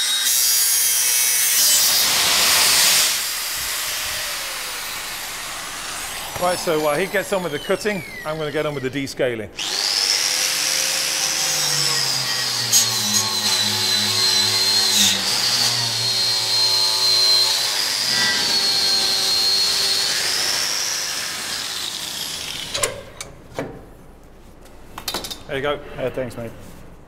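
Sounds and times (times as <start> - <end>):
angle grinder whining on metal: 0.0 - 23.0.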